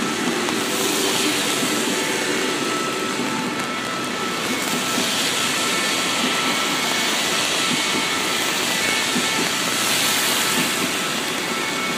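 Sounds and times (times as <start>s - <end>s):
faint high whine: 0.0s - 11.9s
high-speed train rushing past: 0.0s - 11.9s.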